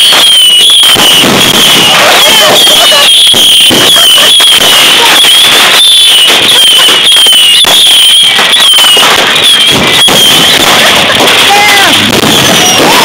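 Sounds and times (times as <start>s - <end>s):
firework crackling and popping: 0.0s - 13.0s.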